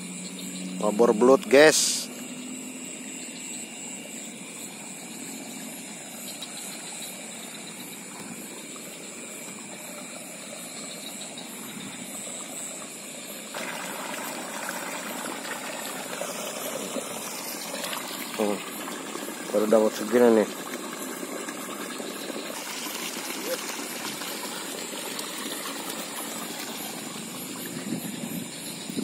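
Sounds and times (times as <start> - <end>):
night insects trilling: 0.0 - 29.0.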